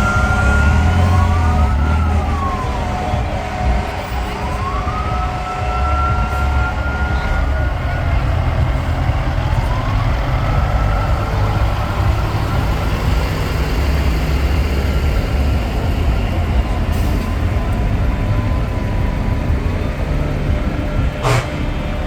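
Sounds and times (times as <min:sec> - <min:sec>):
trucks rumbling past: 0:00.0 - 0:22.0.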